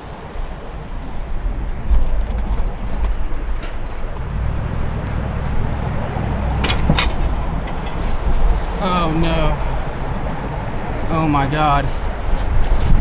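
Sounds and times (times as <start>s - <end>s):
roaring tornado wind: 0.0s - 13.0s.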